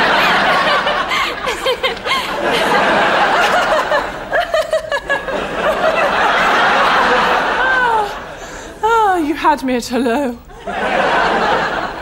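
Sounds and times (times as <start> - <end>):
studio audience laughing: 0.0 - 8.4, 10.5 - 12.0.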